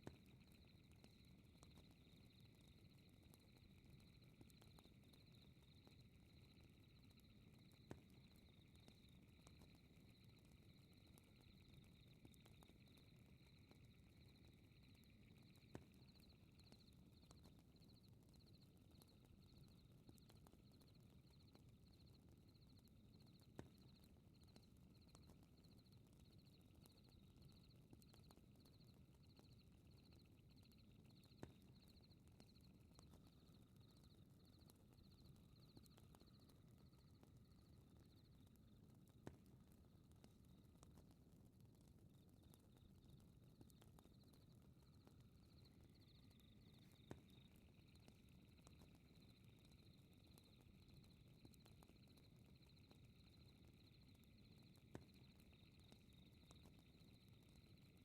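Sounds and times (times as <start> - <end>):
low fire hiss: 0.0 - 58.0.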